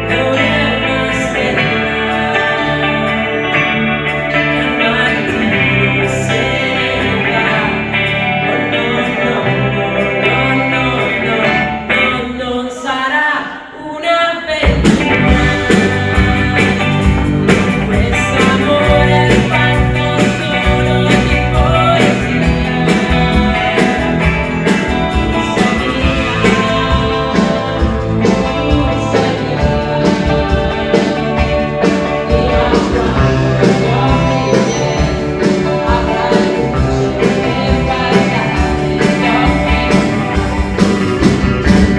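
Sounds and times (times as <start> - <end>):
drums: 0.0 - 12.0, 14.5 - 41.9
live rock band: 0.0 - 13.0, 14.5 - 41.9
person singing: 0.0 - 41.9.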